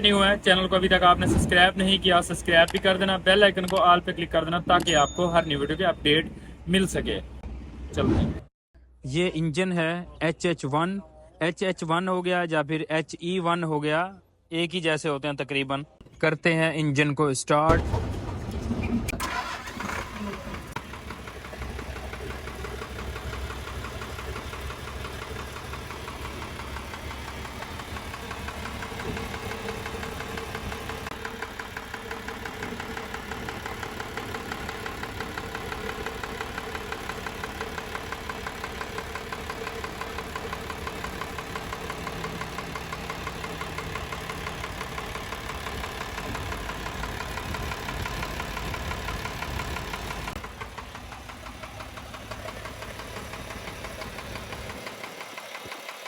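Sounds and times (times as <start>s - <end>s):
diesel engine running: 0.0s - 7.8s, 17.7s - 56.0s.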